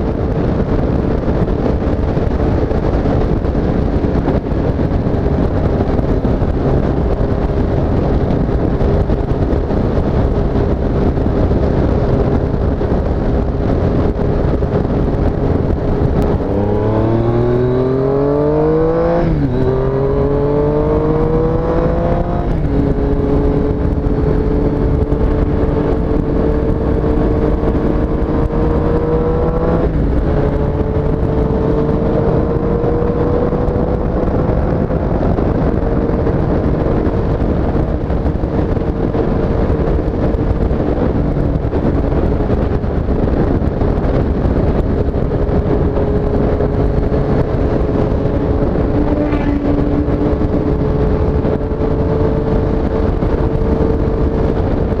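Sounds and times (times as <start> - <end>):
motorcycle engine accelerating: 0.0 - 55.0
wind noise on microphone: 0.0 - 55.0.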